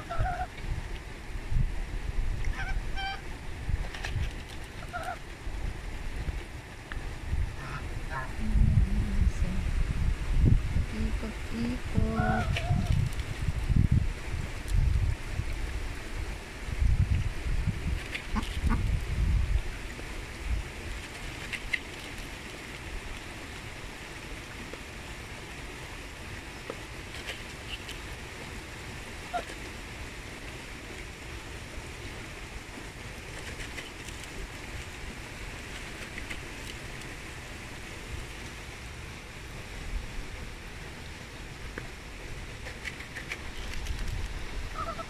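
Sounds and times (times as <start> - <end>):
water at shore: 0.0 - 45.0.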